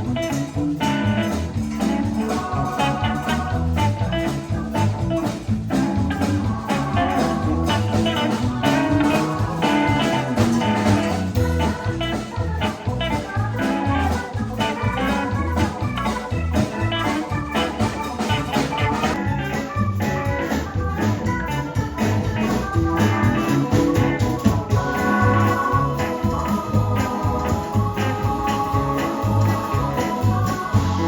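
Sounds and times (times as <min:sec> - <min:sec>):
band playing music: 0:00.0 - 0:31.0
pulsing bass notes: 0:00.0 - 0:31.0.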